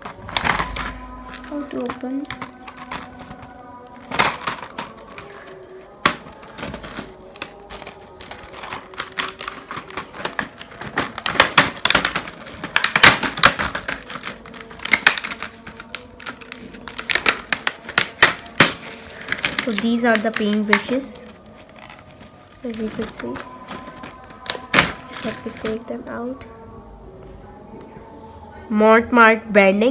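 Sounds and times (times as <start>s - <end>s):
plastic blister pack crackling: 0.0s - 26.0s.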